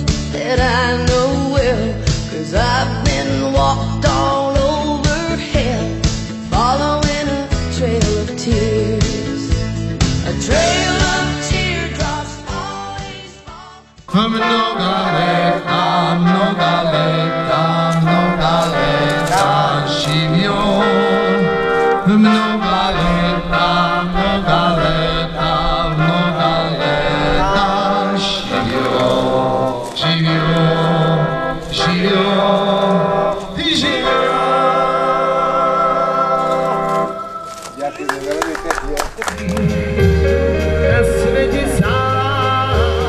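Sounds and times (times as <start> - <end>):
song with singing and beat: 0.0 - 37.8, 39.3 - 43.0.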